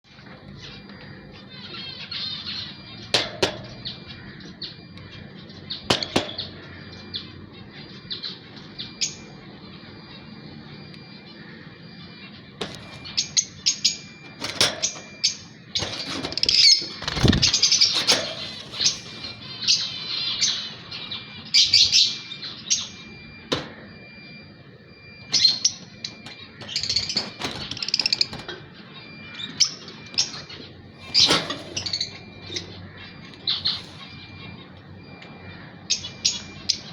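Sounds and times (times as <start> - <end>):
bird chirping: 0.1 - 36.9.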